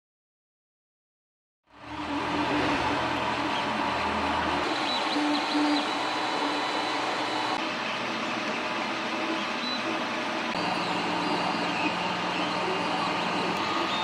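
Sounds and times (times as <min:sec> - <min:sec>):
fan hiss: 0:01.7 - 0:14.0
stepper motor tones: 0:01.7 - 0:14.0.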